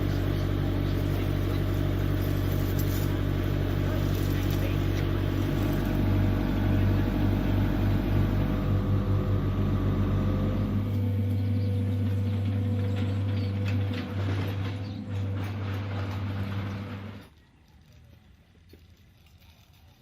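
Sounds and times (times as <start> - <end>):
heavy machine engine humming: 0.0 - 17.3.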